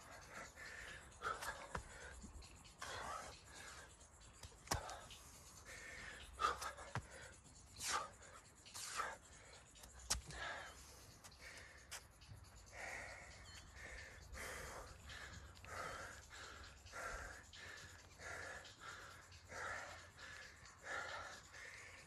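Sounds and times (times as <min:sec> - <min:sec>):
man breathing hard: 0:00.0 - 0:22.0.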